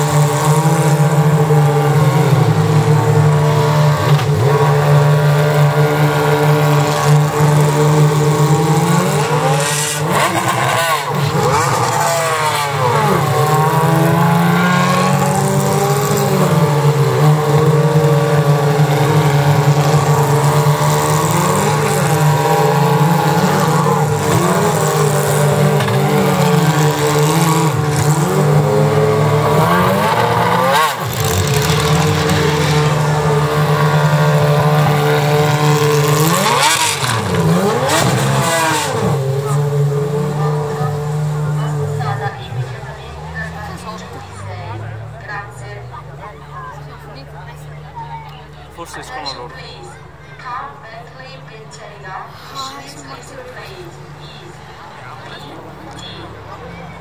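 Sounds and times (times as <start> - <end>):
race car engines idling and revving: 0.0 - 57.0.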